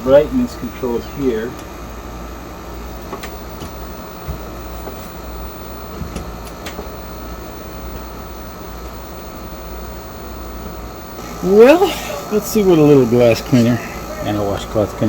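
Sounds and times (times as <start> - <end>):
machine or fan humming: 0.0 - 15.0.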